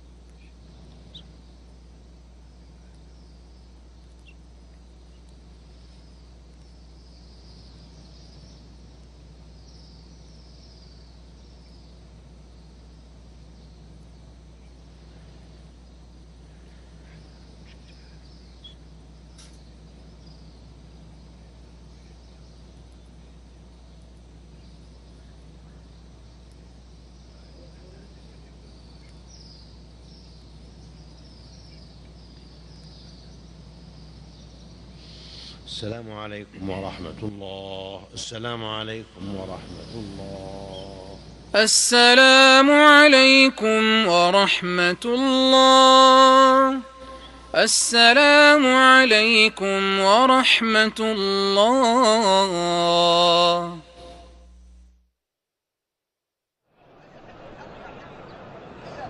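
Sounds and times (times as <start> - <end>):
steady low hum: 0.0 - 55.2, 56.7 - 59.0.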